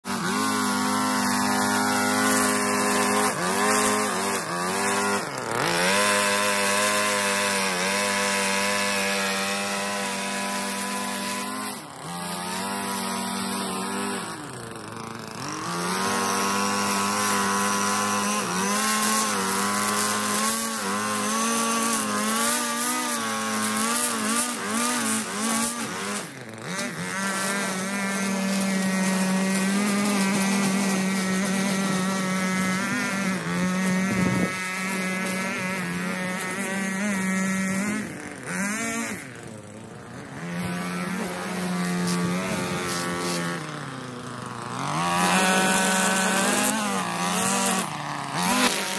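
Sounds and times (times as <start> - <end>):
string trimmer running: 0.0 - 48.9.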